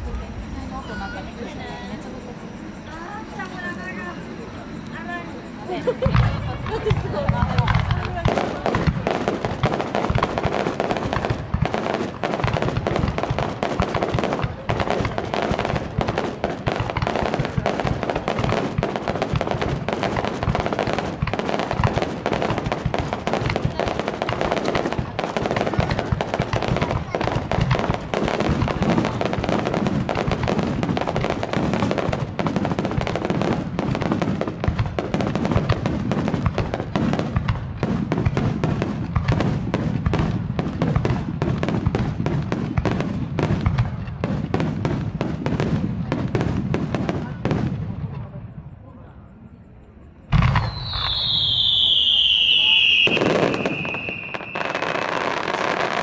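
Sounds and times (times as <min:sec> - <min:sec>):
fireworks booming and crackling: 0:00.0 - 0:49.4, 0:50.2 - 0:56.0.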